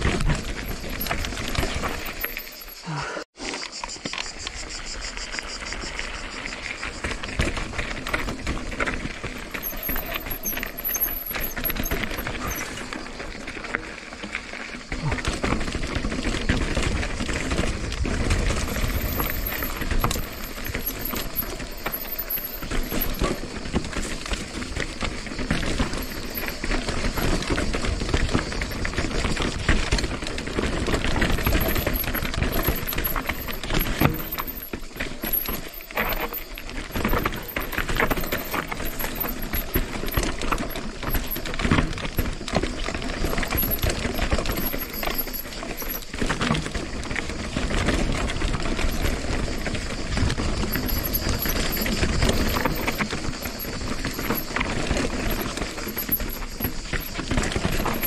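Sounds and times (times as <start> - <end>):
bike rattling: 0.0 - 58.0
bike tyres crunching over rock: 0.0 - 58.0.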